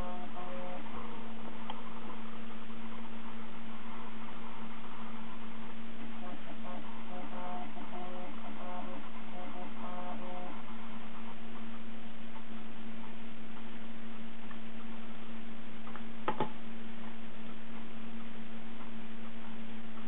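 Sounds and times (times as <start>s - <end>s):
computer humming: 0.0s - 20.0s.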